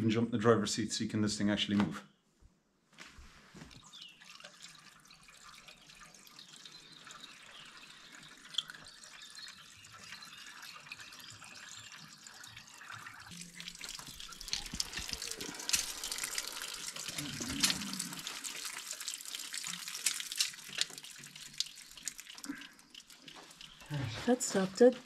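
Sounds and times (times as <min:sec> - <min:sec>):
water pouring and splashing: 0:03.6 - 0:25.0.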